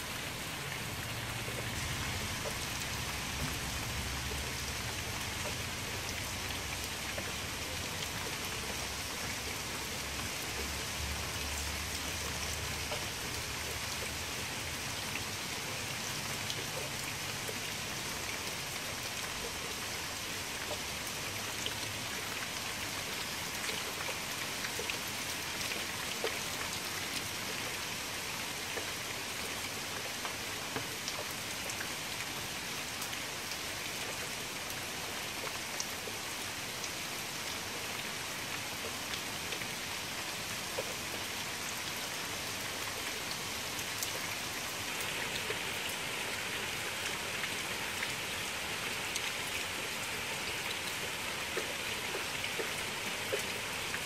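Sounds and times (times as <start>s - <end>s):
rain falling into water: 0.0s - 54.0s.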